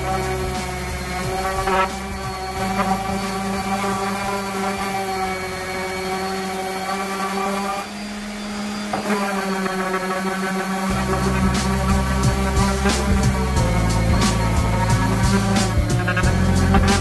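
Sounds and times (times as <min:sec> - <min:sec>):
orbital sander on wood: 0:00.0 - 0:17.0.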